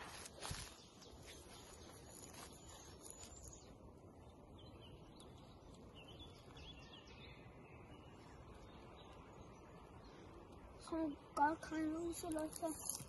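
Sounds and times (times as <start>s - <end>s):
low background noise: 0.0s - 13.0s
faint bird chirps: 0.4s - 13.0s.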